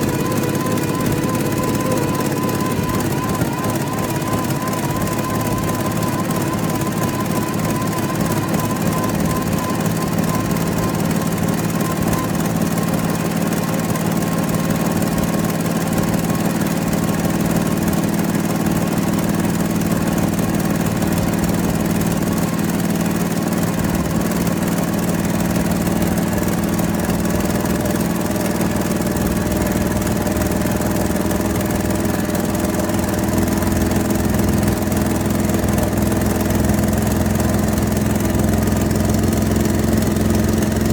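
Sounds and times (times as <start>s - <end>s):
engine idling: 0.0s - 40.9s
thin wavering whine: 0.0s - 40.9s.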